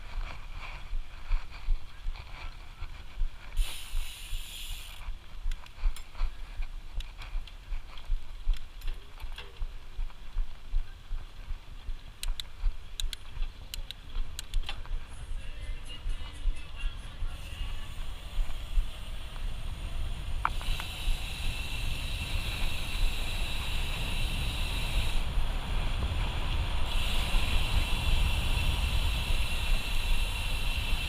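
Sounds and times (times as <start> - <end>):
wind rumble on microphone: 0.0 - 3.7, 4.8 - 31.0
bike clicks and rattles: 0.0 - 15.1, 16.2 - 31.0.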